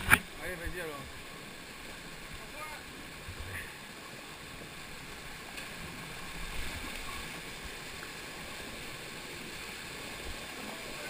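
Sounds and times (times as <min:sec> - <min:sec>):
stream rushing down waterfall: 0:00.0 - 0:11.0.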